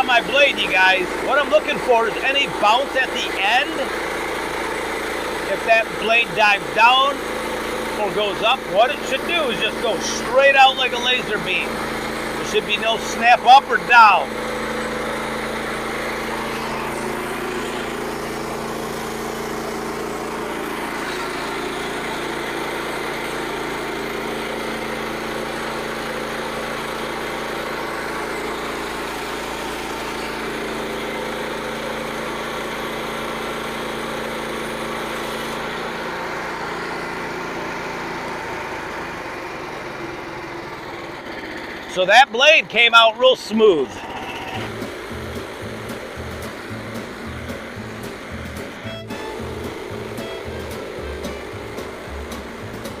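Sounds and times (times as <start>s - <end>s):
sawmill engine running: 0.0s - 53.0s.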